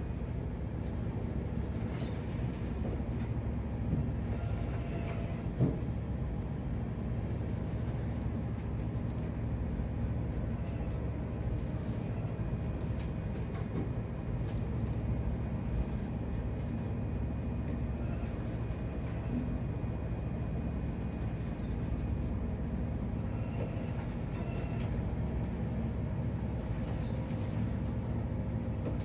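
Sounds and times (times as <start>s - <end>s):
ship engine droning: 0.0s - 29.0s.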